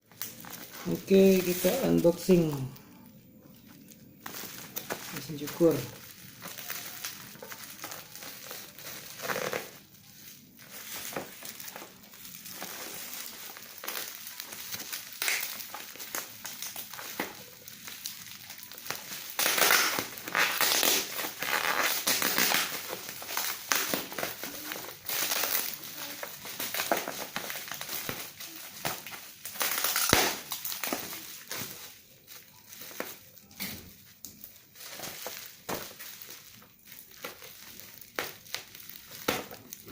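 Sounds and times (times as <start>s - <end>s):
packaging crinkling and rustling: 0.0s - 39.9s.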